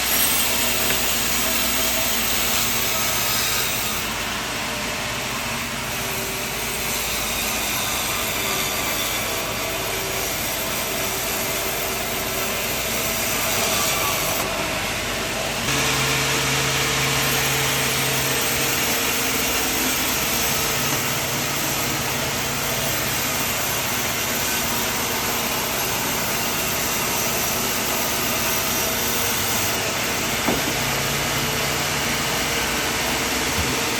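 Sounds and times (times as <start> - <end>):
sawmill blade cutting log: 0.0 - 33.9.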